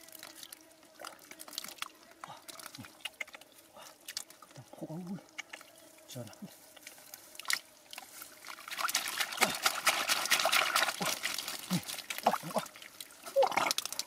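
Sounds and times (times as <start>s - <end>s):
wet mud squelches: 0.0s - 5.7s, 6.7s - 14.0s
muddy water trickling and splashing: 0.0s - 14.0s.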